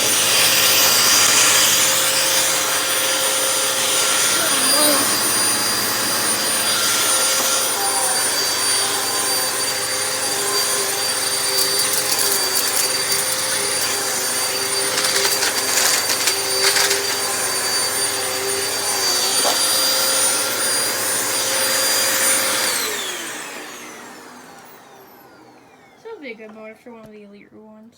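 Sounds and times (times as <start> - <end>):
vacuum cleaner running: 0.0 - 27.3.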